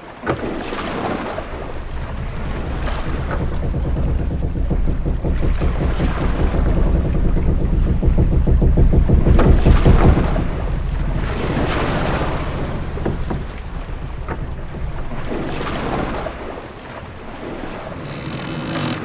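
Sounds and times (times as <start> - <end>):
rumble of water and wind: 0.0 - 19.0
waves washing against hull: 0.0 - 19.0
knocks from ship: 0.1 - 19.0.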